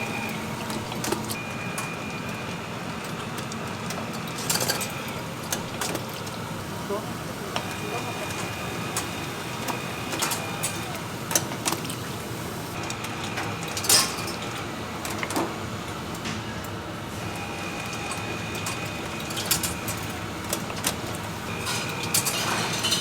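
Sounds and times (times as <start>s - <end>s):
kitchen machinery running: 0.0s - 23.0s.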